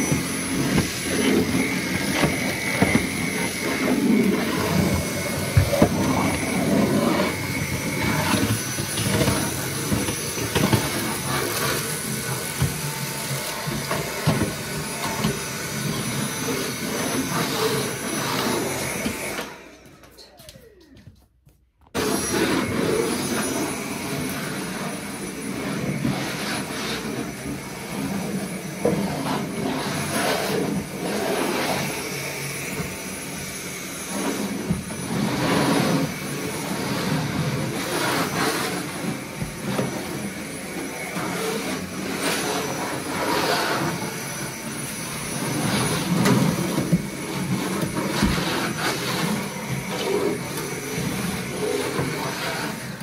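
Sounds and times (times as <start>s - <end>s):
vacuum cleaner running: 0.0s - 21.2s, 21.9s - 53.0s.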